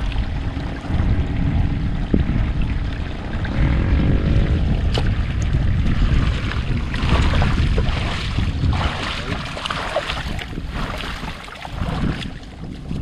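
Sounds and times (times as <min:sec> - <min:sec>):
water splashing: 0:00.0 - 0:13.0
wind rumbling on microphone: 0:00.0 - 0:13.0.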